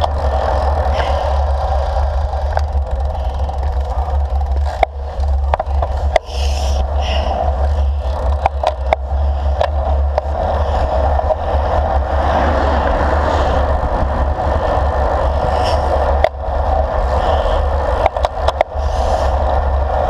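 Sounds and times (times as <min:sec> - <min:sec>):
bicycle tyre noise on asphalt: 0:00.0 - 0:20.0
bike clicks and rattles: 0:00.0 - 0:20.0
wind rumble: 0:00.0 - 0:20.0.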